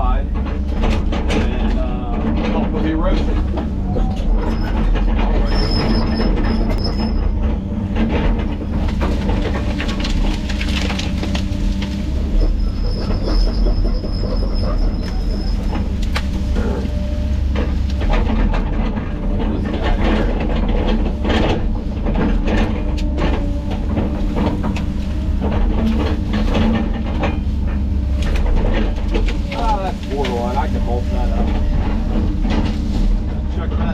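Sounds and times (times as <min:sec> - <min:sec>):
excavator diesel engine running: 0:00.0 - 0:33.9
knocks and clatter of logs: 0:00.0 - 0:33.9.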